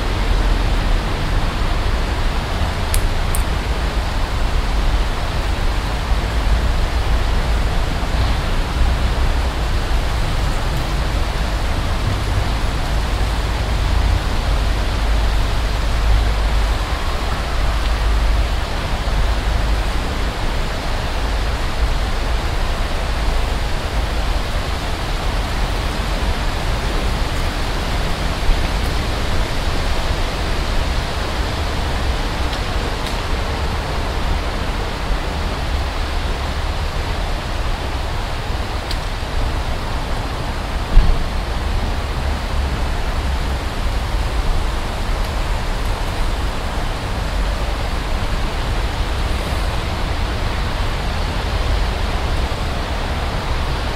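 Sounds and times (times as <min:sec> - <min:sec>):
rushing outdoor noise: 0:00.0 - 0:53.9.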